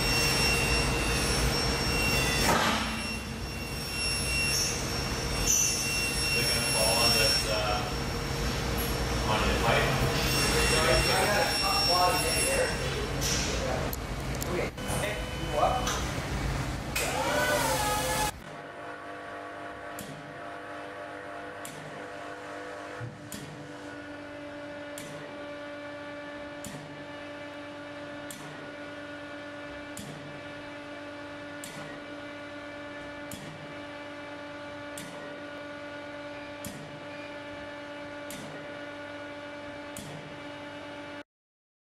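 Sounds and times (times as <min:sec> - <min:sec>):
steady machine hum: 0:00.0 - 0:41.2.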